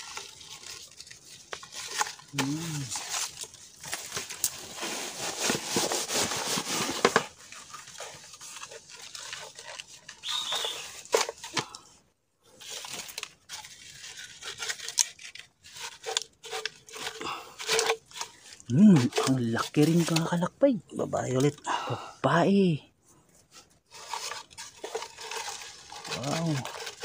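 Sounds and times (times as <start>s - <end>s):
bamboo trap rustling and scraping: 0.0s - 21.9s, 23.0s - 27.0s.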